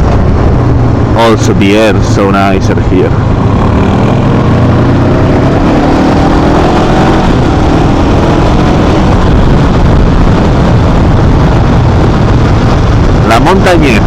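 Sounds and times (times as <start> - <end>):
motorcycle engine accelerating: 0.0 - 14.0
wind rush on microphone: 0.0 - 14.0.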